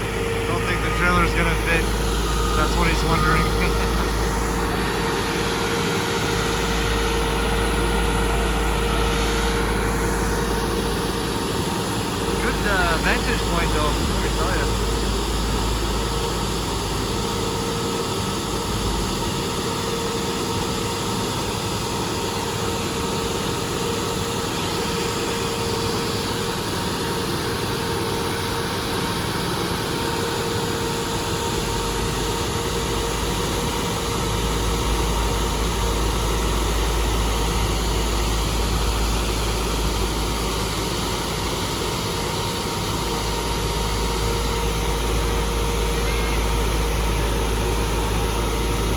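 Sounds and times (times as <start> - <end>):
constant whine: 0.0 - 48.9
heavy machinery engines running: 0.0 - 48.9.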